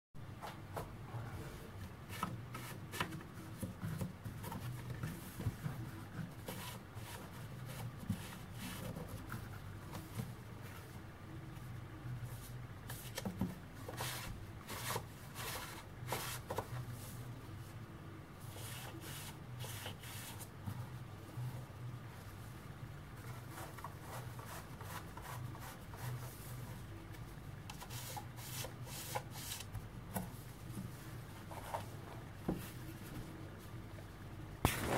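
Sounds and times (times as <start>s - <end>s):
low steady hum: 0.2s - 34.9s.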